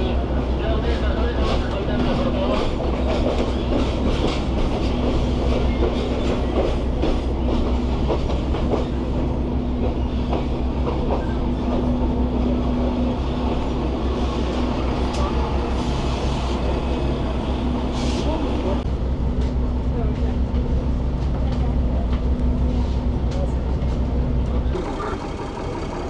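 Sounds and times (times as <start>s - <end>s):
train rumbling along track: 0.0s - 26.0s.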